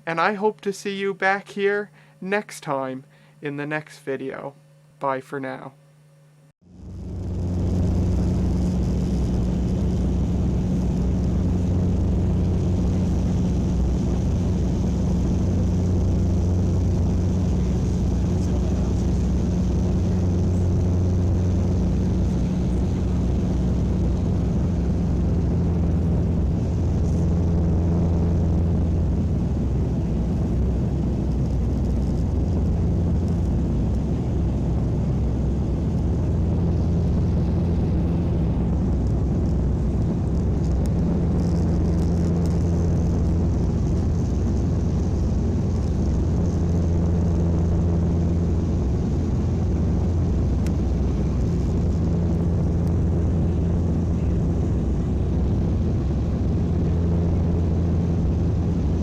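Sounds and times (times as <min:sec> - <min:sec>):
low mechanical drone: 0:01.2 - 0:59.0.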